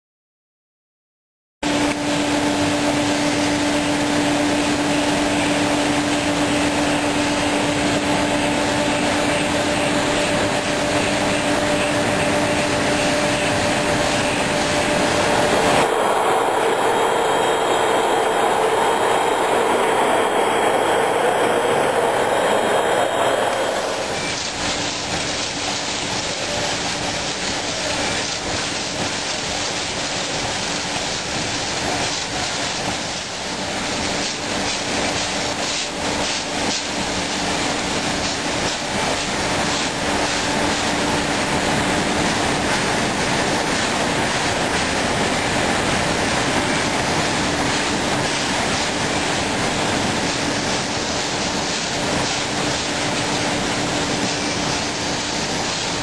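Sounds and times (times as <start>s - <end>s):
factory machinery running: 1.6s - 56.0s.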